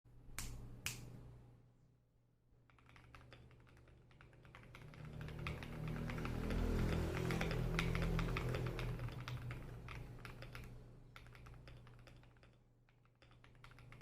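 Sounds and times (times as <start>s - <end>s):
mechanical keyboard typing: 2.6s - 14.0s.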